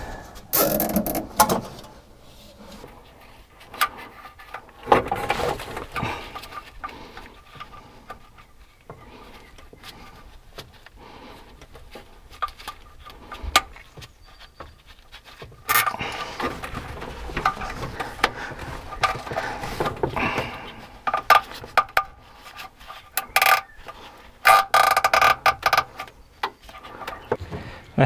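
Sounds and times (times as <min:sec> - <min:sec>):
hands working on small car parts: 0:02.6 - 0:27.5.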